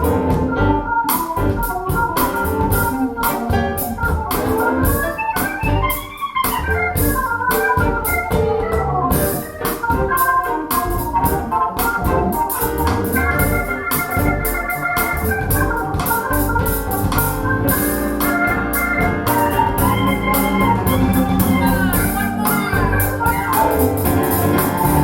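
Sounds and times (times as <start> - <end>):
steady drum beat: 0.0 - 25.0
sustained keyboard chords: 0.0 - 25.0.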